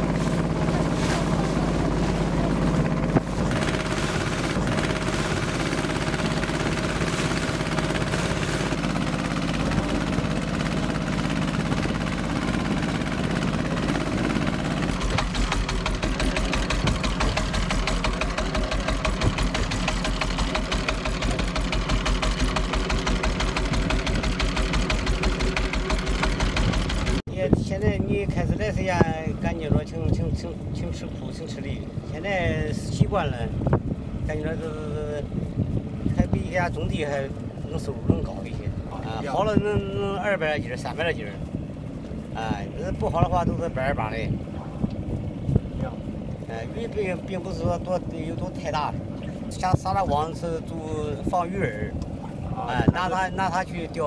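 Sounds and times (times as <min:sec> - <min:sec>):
boat diesel engine running: 0:00.0 - 0:54.0.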